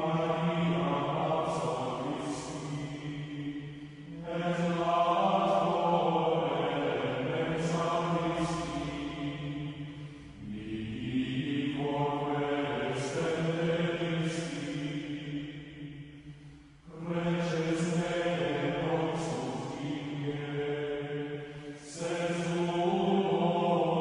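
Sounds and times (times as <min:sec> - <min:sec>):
low voices chanting plainchant: 0:00.0 - 0:24.0.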